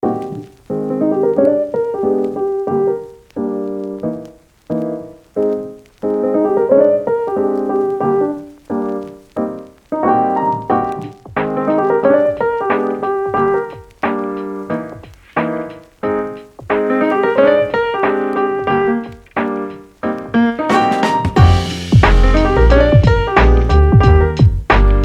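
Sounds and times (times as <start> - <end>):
gentle solo piano: 0.0 - 25.0.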